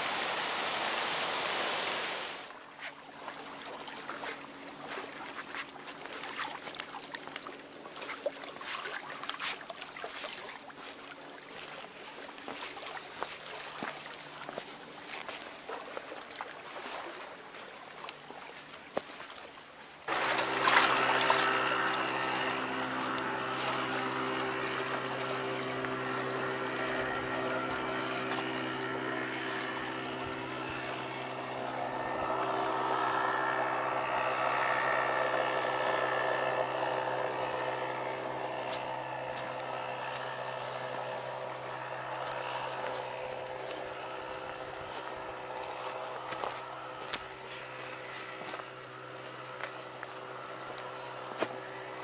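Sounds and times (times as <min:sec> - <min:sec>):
steady motor drone: 0:00.0 - 0:52.0.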